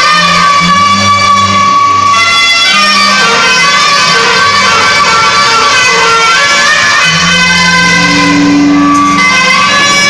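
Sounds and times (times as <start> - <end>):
clarinet holding a high note: 0.0 - 10.0
lower accompaniment line: 0.0 - 10.0.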